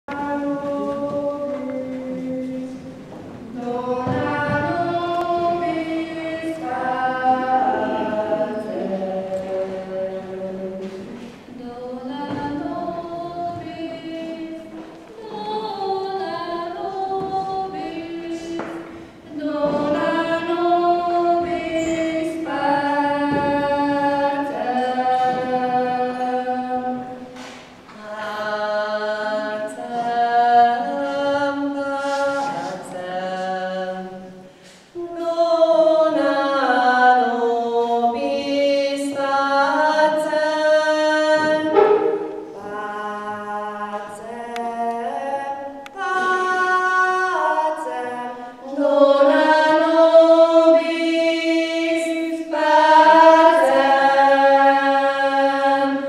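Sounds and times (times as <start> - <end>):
women's choir singing a cappella: 0.0 - 56.0.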